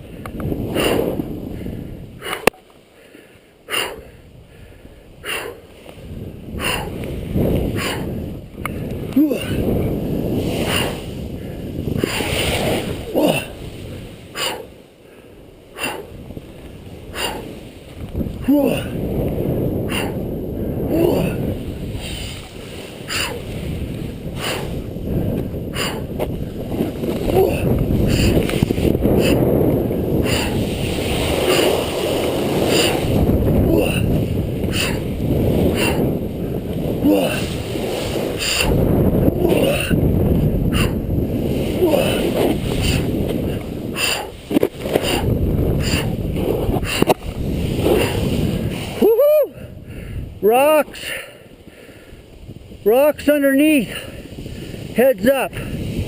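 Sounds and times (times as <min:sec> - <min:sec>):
wind buffeting microphone: 0:00.0 - 0:56.0
snowboard scraping over snow: 0:00.4 - 0:02.4, 0:05.4 - 0:14.8, 0:15.7 - 0:56.0.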